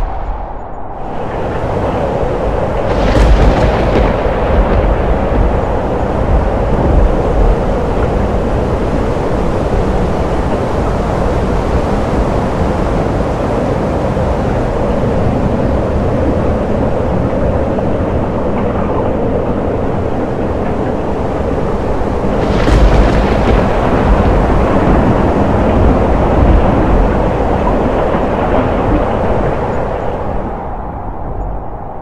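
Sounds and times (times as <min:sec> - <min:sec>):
rolling thunder rumble: 0:00.0 - 0:32.0.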